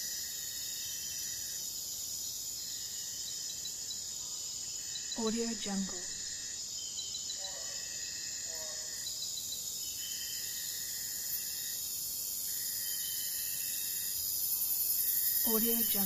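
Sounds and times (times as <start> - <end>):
insects buzzing: 0.0 - 16.0
lower insect whine: 0.0 - 16.0.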